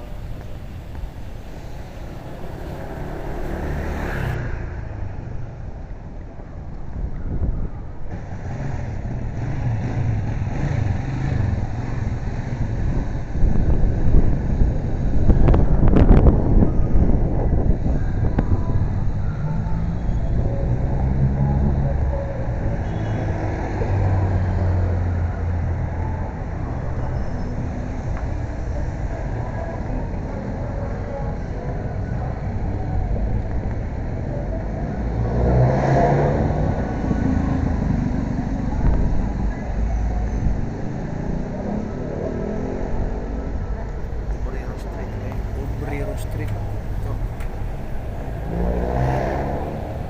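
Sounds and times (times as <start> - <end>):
road and vehicle noise: 0.0 - 50.0
wind rumble on microphone: 0.0 - 50.0.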